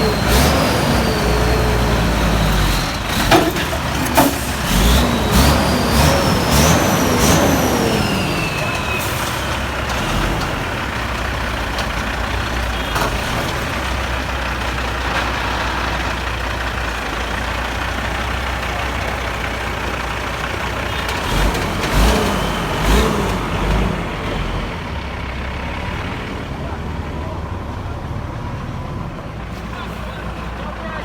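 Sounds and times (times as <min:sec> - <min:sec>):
heavy diesel engine rumbling: 0:00.0 - 0:31.0.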